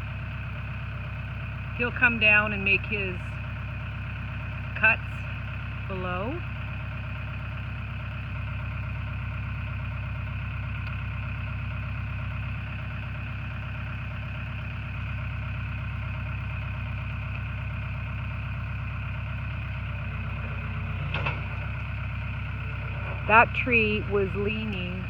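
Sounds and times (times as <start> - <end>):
excavator diesel engine idling: 0.0 - 25.0.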